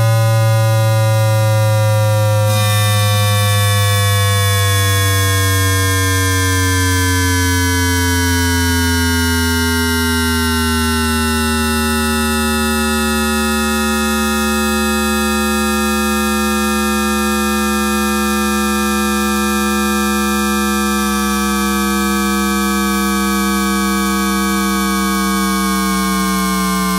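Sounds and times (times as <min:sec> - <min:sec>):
train inverter buzzing tones: 0:00.0 - 0:26.9.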